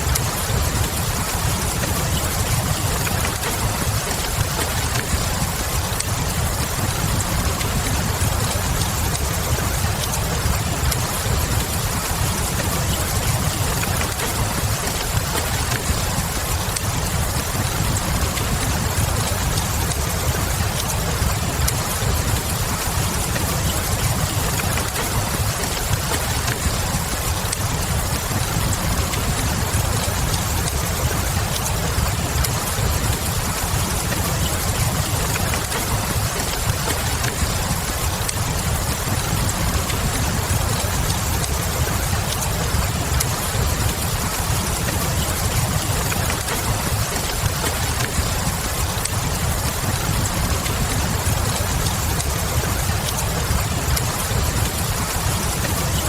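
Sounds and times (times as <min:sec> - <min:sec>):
steady rain hiss: 0:00.0 - 0:56.0
wood fire crackling: 0:00.0 - 0:56.0.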